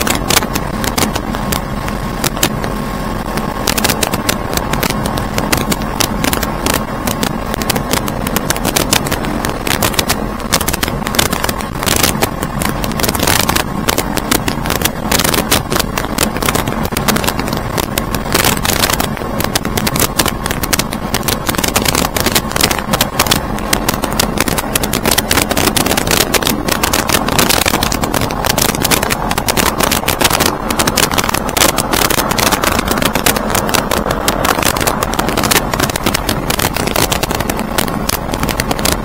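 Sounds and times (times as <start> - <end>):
light aircraft engine and propeller drone: 0.0 - 39.0.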